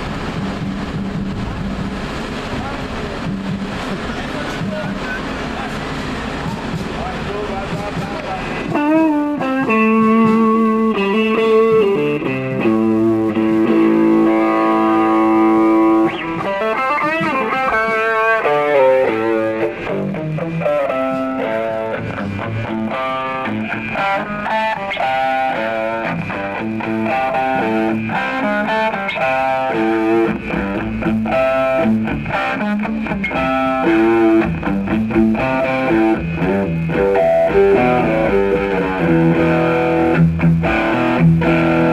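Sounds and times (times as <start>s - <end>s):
distorted electric guitar: 0.0s - 41.9s.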